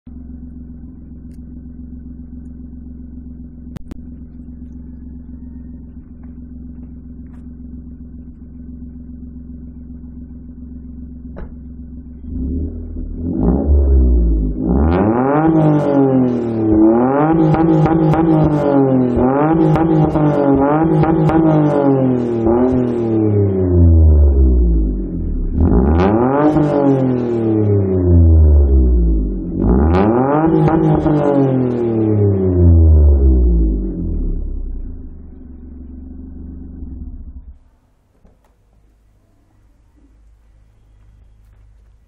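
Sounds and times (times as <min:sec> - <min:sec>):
car engine revving: 0:00.1 - 0:38.0.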